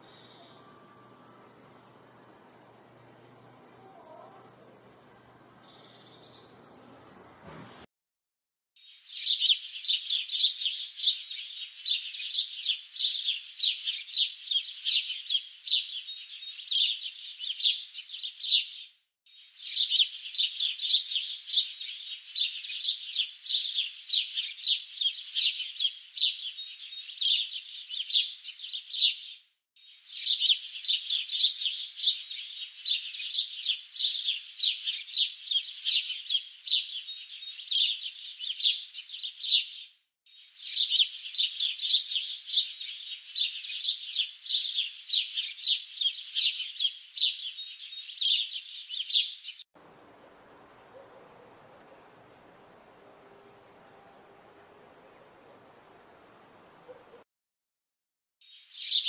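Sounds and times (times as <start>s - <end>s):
songbirds chirping and twittering: 0.0s - 7.9s, 8.8s - 57.2s, 58.4s - 59.0s.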